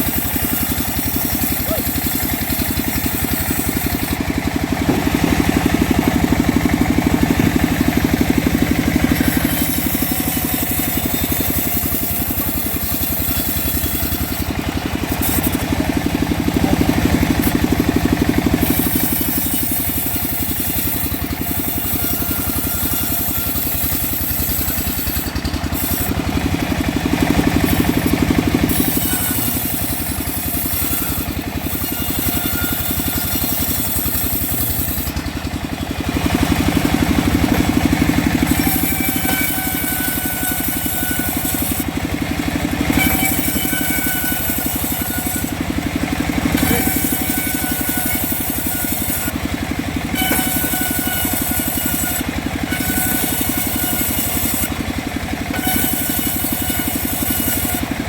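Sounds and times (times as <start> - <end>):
bandsaw sawmill engine running: 0.0 - 58.0.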